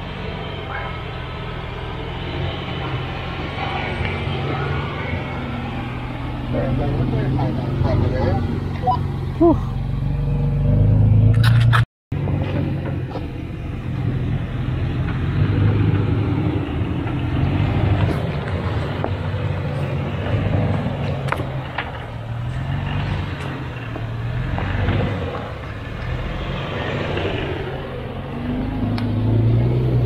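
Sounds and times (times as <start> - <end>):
off-road vehicle engine running: 0.0 - 30.0
tyre and trail noise: 0.0 - 30.0.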